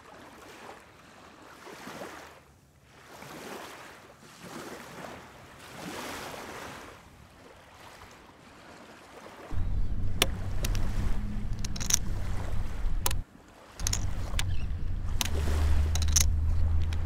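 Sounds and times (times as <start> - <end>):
small waves washing on rocks: 0.0 - 17.0.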